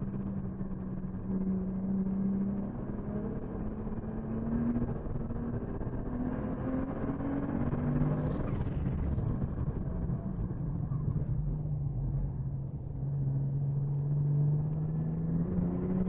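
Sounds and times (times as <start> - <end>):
car engine accelerating: 0.0 - 16.0
road and tyre noise: 0.0 - 16.0.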